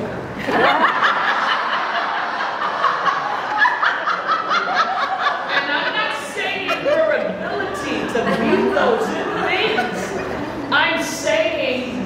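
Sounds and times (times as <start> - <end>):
people laughing: 0.4 - 10.8.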